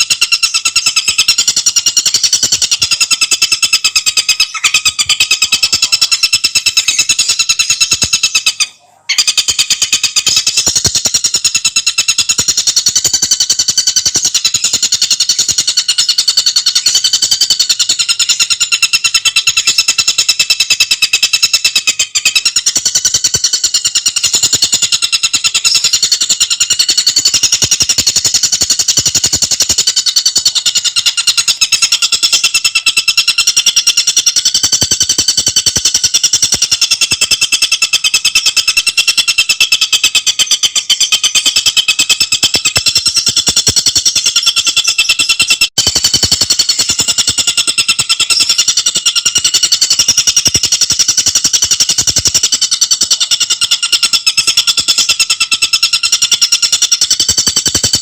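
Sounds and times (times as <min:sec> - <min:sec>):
bird trilling: 0:00.0 - 0:58.0.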